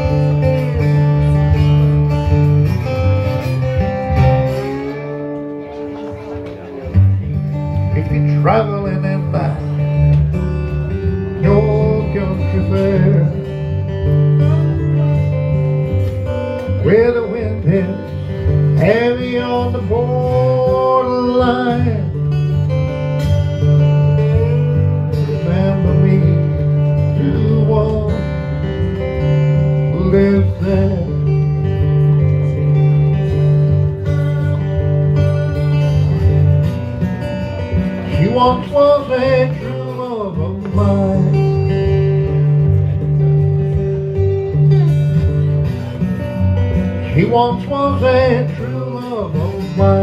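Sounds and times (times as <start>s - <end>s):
slide guitar: 0.0s - 50.0s.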